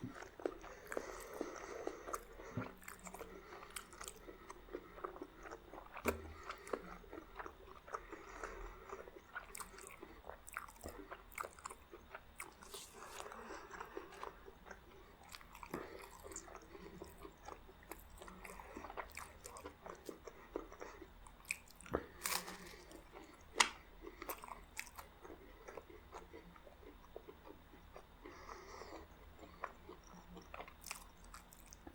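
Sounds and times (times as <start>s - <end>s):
person chewing and crunching: 0.0s - 31.9s.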